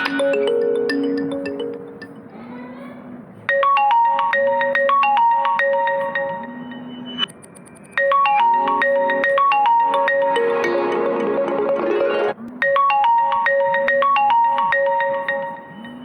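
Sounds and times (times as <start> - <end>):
marimba ringtone melody: 0.0 - 2.5, 3.5 - 16.0.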